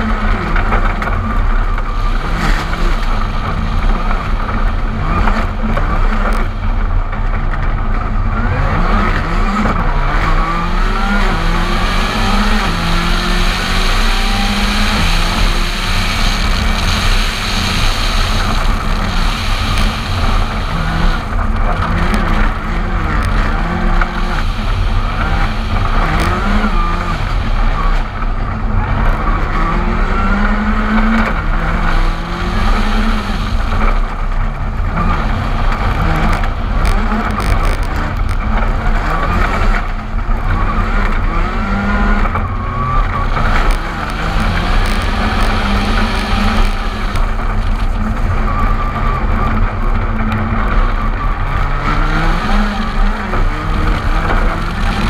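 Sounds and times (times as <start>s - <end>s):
rally car engine accelerating: 0.0s - 55.0s.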